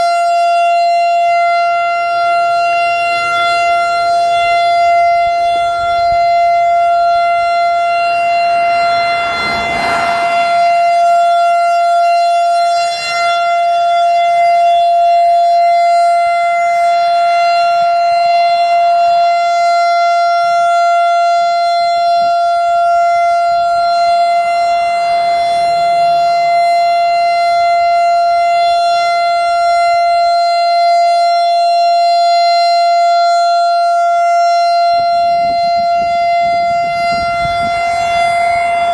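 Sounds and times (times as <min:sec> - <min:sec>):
steady warning siren tone: 0:00.0 - 0:38.9.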